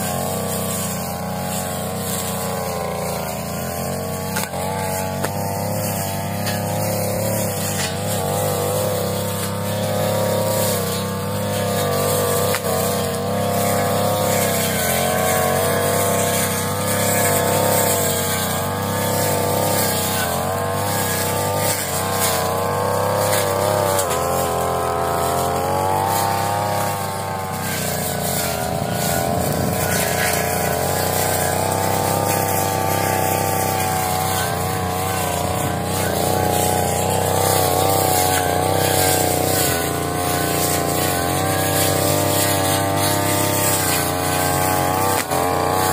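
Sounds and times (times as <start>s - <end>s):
brush cutter engine running: 0.0s - 45.9s.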